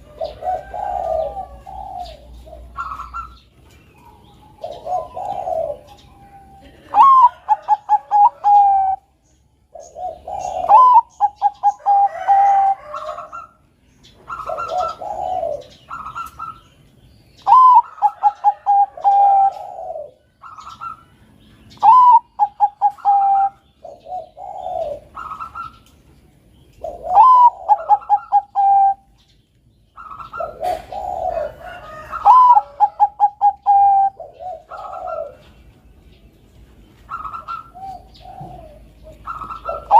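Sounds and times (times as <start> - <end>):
dove cooing: 0.0 - 16.8, 17.4 - 25.9, 26.7 - 29.3, 29.9 - 35.9, 37.0 - 39.9.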